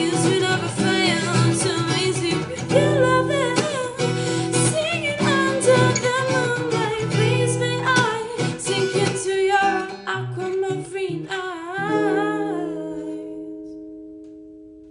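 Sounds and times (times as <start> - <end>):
woman singing: 0.0 - 13.9
guitar: 0.0 - 14.9.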